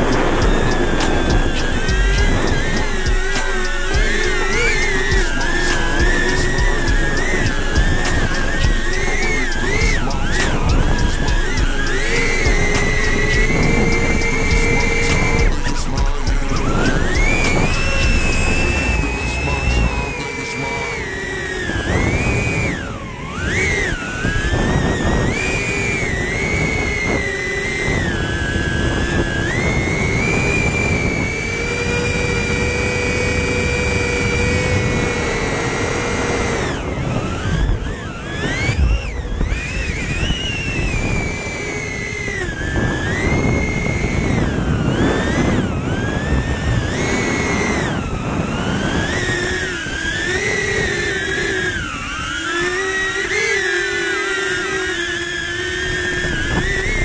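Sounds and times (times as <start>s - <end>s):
drone propellers whining: 0.0s - 57.0s.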